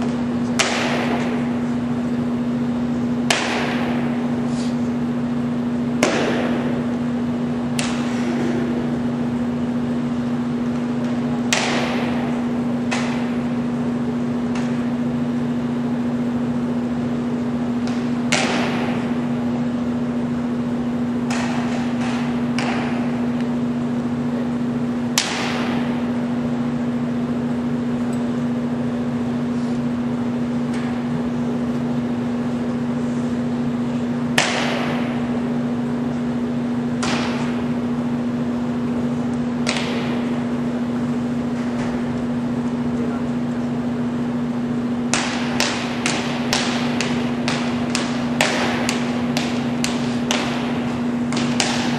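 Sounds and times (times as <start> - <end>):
electrical hum: 0.0 - 51.9.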